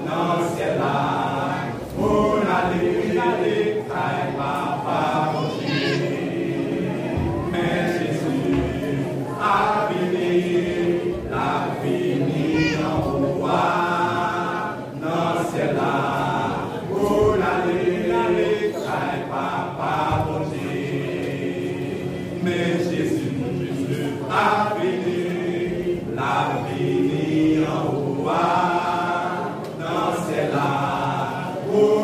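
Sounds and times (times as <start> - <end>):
men singing gospel: 0.0 - 32.0.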